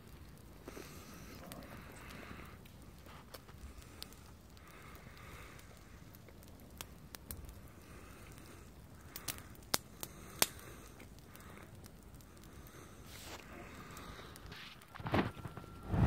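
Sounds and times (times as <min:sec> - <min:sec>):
bonfire crackling: 0:00.0 - 0:16.0
sharp snaps of fire: 0:00.0 - 0:16.0.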